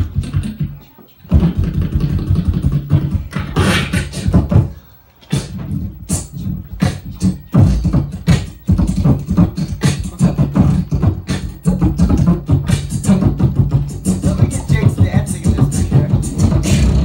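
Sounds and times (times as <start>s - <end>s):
man beatboxing: 0.0s - 17.0s.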